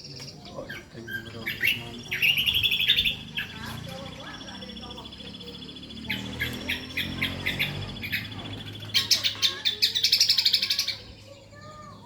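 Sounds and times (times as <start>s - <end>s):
songbird chattering song: 0.0s - 12.0s.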